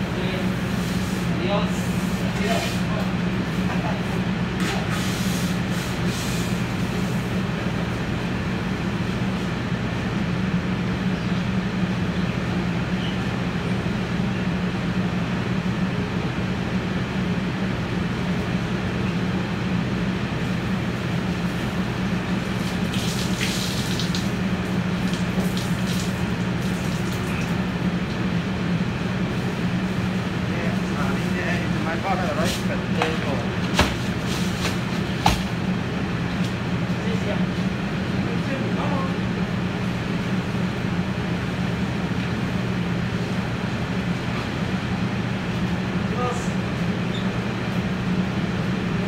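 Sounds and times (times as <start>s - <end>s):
exhaust hood fan hum: 0.0s - 49.0s.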